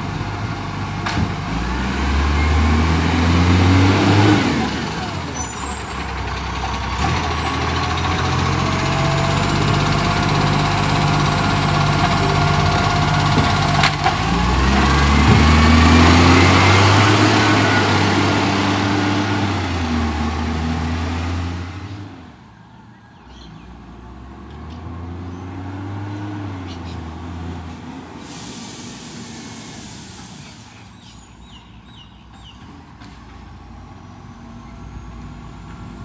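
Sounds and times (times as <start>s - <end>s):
garbage truck diesel engine: 0.0s - 36.0s.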